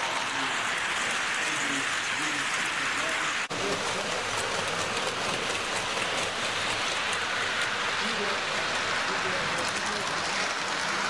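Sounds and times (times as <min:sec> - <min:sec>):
model train wheels rattling on rails: 0:00.0 - 0:11.0.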